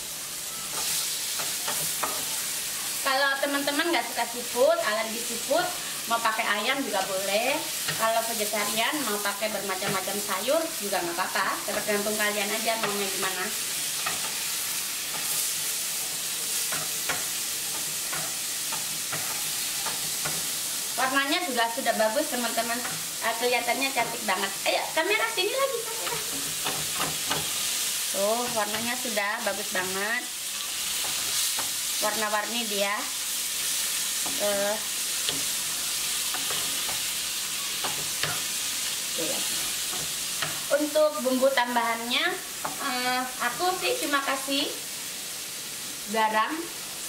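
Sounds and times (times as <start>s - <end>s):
seafood sizzling in hot oil: 0.0s - 47.0s.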